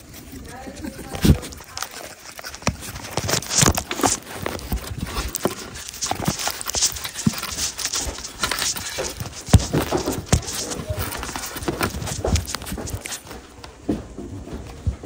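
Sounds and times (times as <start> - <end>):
puppies scrabbling on microphone: 0.0 - 13.6.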